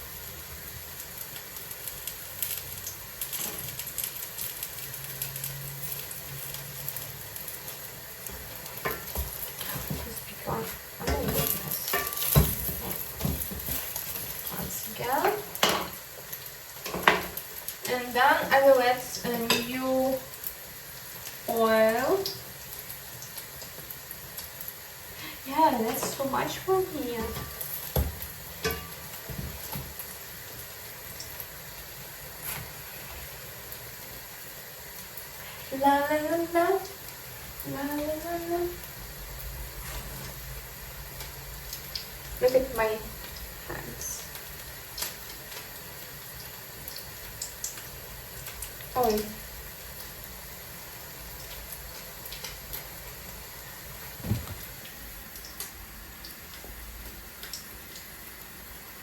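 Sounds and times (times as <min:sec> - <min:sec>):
pancakes sizzling in oil: 0:00.0 - 0:59.0.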